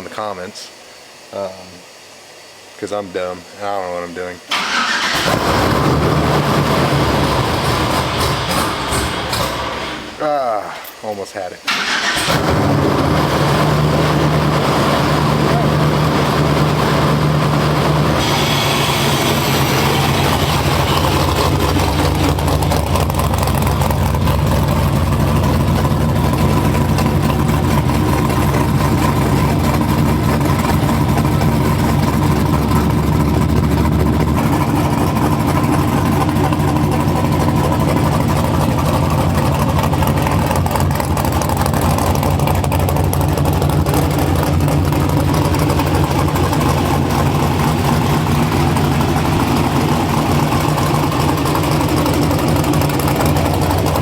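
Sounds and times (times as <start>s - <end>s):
car engine idling: 4.5s - 11.0s, 11.7s - 54.0s.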